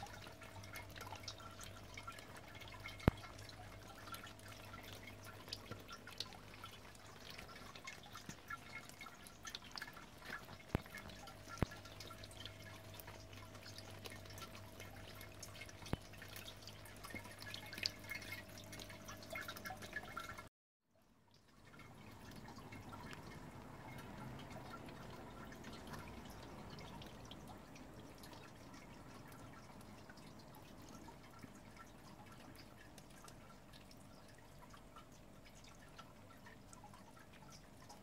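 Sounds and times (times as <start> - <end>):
low steady hum: 0.0 - 20.5, 21.3 - 38.0
water dripping and trickling: 0.0 - 38.0.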